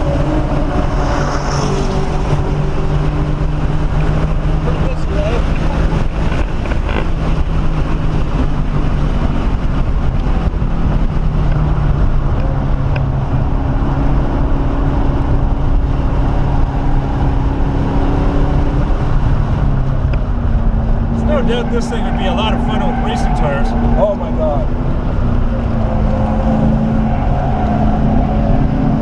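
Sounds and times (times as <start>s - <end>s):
car engine running hard: 0.0s - 29.0s
road and wind noise: 0.0s - 29.0s.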